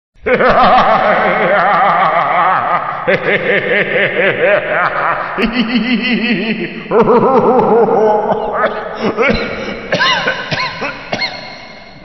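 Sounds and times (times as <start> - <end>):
spooky theatrical laugh: 0.2 - 12.0.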